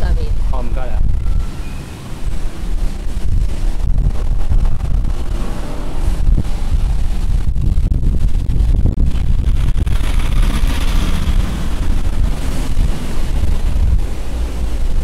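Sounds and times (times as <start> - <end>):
outdoor street noise: 0.0 - 15.0
wind buffeting microphone: 0.0 - 15.0.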